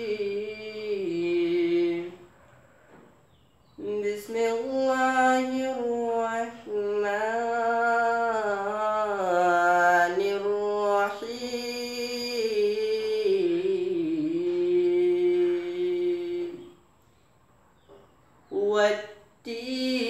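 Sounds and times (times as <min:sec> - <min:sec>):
boy chanting recitation: 0:00.0 - 0:02.7, 0:03.6 - 0:16.8, 0:18.5 - 0:20.0.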